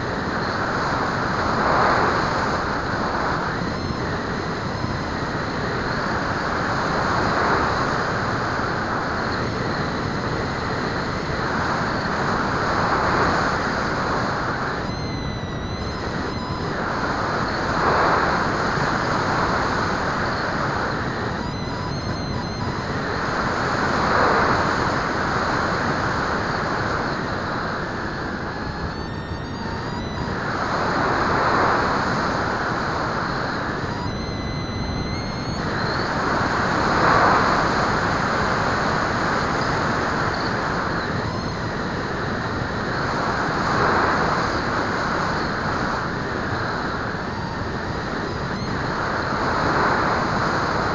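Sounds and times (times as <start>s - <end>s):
electric motor whine: 0.0s - 50.0s
wind rushing over microphone: 0.0s - 50.9s.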